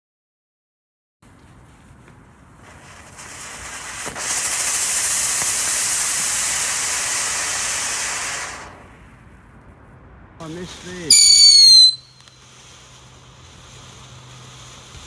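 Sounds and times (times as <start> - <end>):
firework fountain hissing sparks: 1.2 - 9.4, 10.4 - 15.0.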